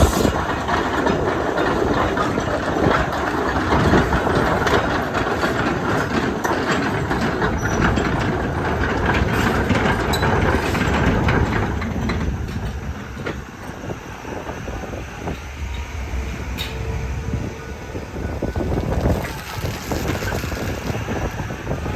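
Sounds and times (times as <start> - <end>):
heavy metallic clatter: 0.0 - 21.8
excavator engine running: 0.0 - 21.9.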